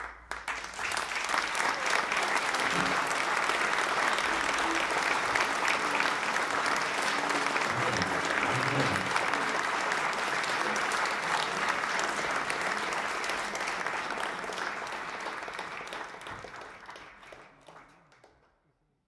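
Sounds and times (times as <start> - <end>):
audience applauding: 0.0 - 18.5.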